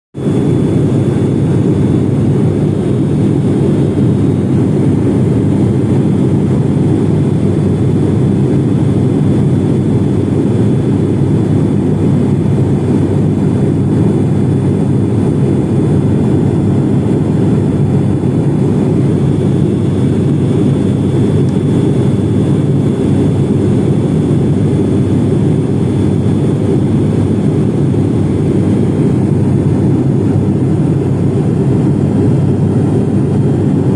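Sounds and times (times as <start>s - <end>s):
aircraft engine and propeller drone: 0.2s - 33.9s.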